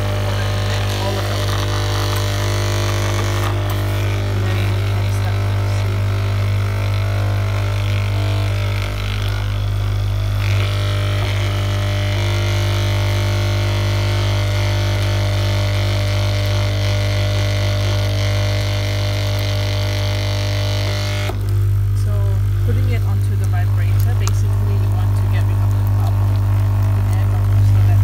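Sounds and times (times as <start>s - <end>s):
vibrator buzzing: 0.0s - 28.0s.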